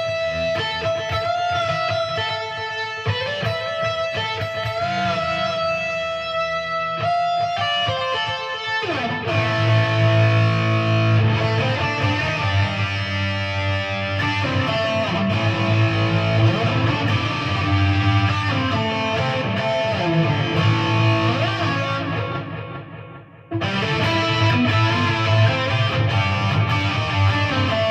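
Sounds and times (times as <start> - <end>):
distorted electric guitar riff: 0.0 - 27.9.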